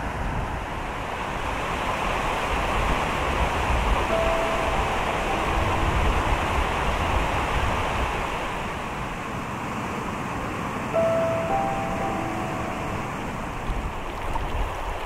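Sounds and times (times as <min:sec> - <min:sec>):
wind gusting on microphone: 0:00.0 - 0:10.8, 0:13.1 - 0:15.0
mountain stream rushing: 0:00.0 - 0:15.0.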